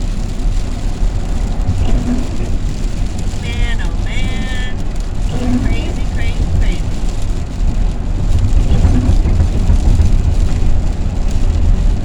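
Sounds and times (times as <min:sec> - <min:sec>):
road noise: 0:00.0 - 0:12.0
van engine rumble: 0:00.0 - 0:12.0.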